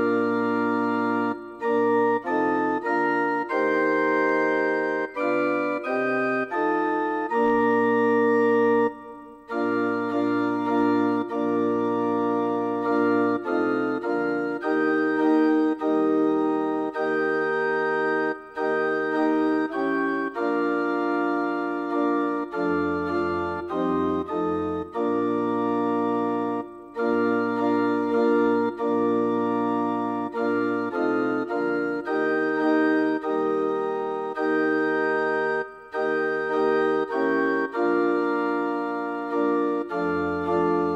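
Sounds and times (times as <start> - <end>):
church organ chords: 0.0 - 40.9.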